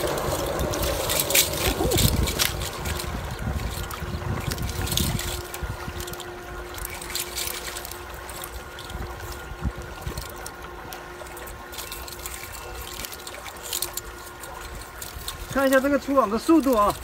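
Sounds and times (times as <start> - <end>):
faint steady hum: 0.0 - 17.0
fishing net rustling: 0.0 - 17.0
water trickling: 0.0 - 17.0.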